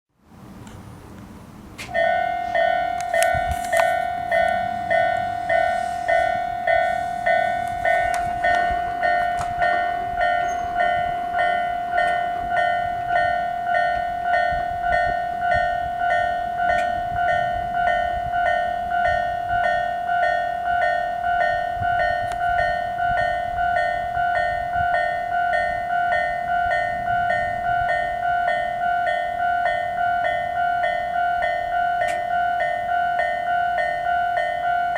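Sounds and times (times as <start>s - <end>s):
level crossing warning bells: 0.9s - 34.9s.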